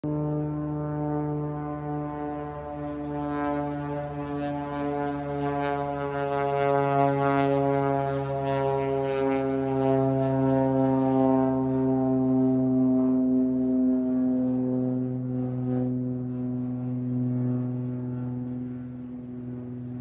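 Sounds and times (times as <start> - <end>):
propeller plane droning: 0.0 - 20.0.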